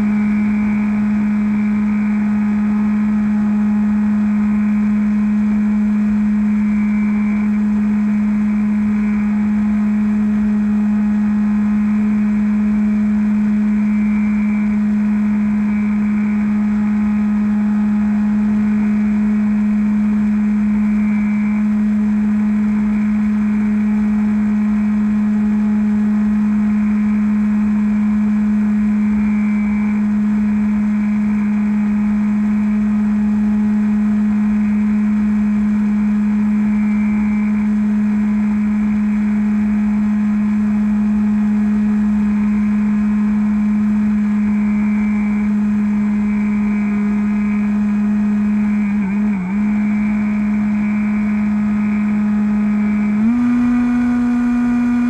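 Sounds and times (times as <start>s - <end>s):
electric motor and propeller hum: 0.0s - 55.0s.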